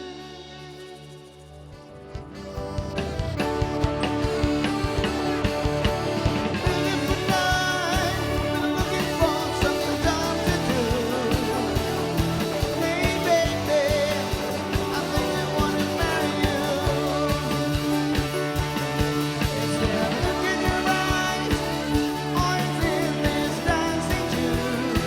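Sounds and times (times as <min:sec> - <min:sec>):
live pop-rock band playing: 0:00.0 - 0:25.0
person singing melody: 0:00.0 - 0:25.0.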